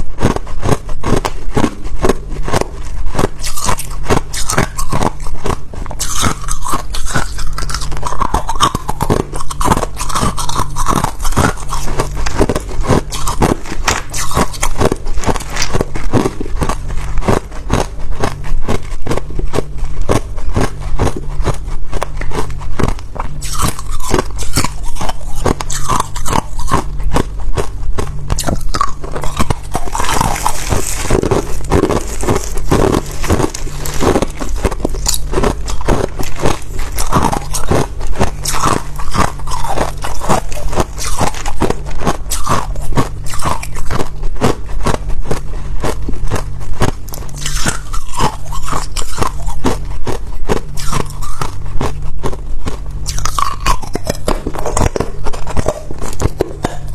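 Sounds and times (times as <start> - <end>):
ice crunching while chewed: 0.0 - 56.9.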